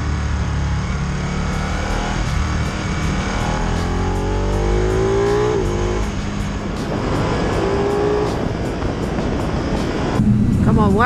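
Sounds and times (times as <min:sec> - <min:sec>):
motorcycle engine accelerating: 0:00.0 - 0:10.8
wind rush: 0:01.5 - 0:11.0.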